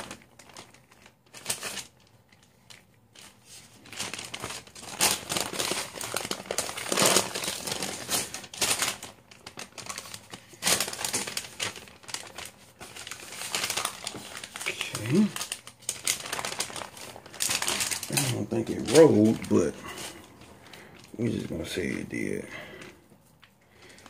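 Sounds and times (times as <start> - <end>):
parchment paper crinkling: 0.0 - 24.0.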